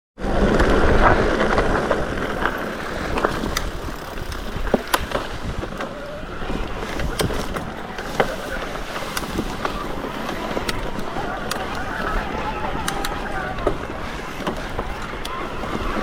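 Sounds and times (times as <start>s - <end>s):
bike tyres rolling over rocks: 0.2s - 16.0s
bike parts rattling: 0.3s - 16.0s.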